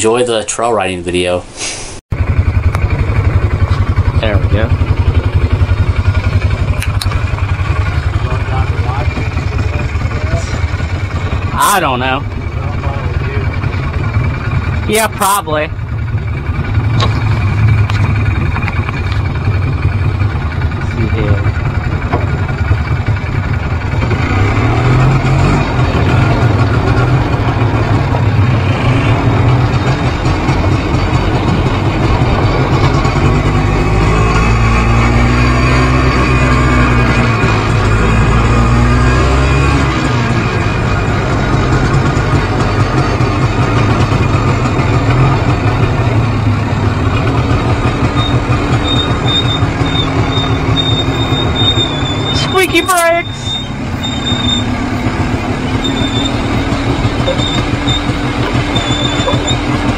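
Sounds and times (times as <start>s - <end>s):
two-stroke quad engine running: 2.1s - 59.9s
rattle and rumble of the ride: 2.2s - 35.9s, 39.9s - 59.9s.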